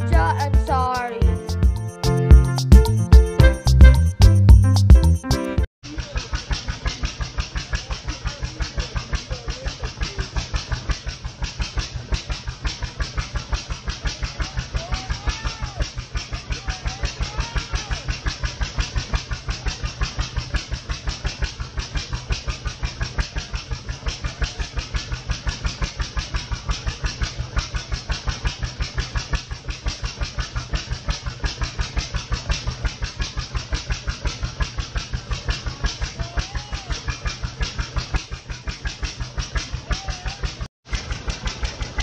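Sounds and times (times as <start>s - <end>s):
engine thumping steadily: 0.0s - 5.2s, 5.8s - 42.0s.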